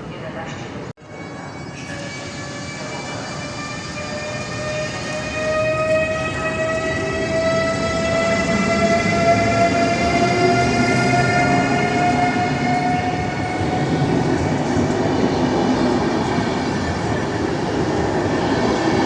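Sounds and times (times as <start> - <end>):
train wheels rumbling on rails: 1.8 - 19.0.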